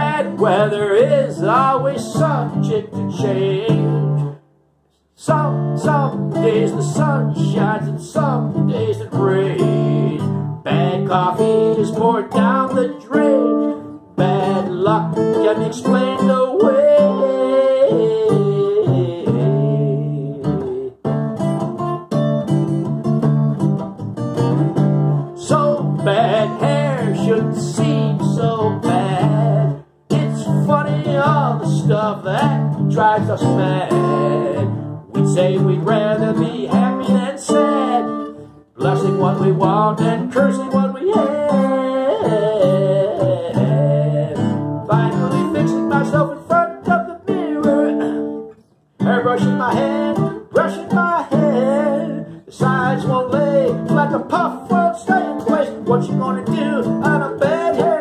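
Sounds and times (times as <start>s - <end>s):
acoustic guitar picked and strummed: 0.0s - 58.0s.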